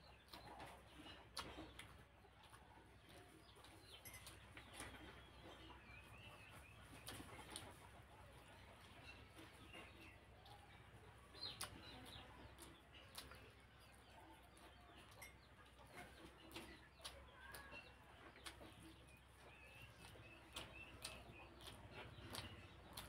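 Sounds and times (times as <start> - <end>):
person chewing: 0.1 - 8.0, 8.6 - 15.2, 15.8 - 23.0.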